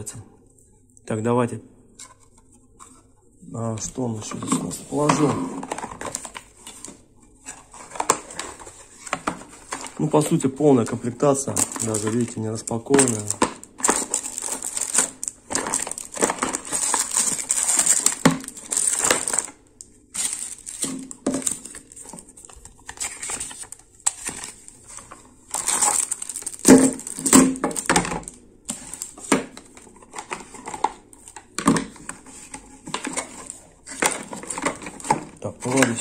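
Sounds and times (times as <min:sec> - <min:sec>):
cardboard rustling and scraping: 0:02.0 - 0:19.5, 0:20.1 - 0:36.0.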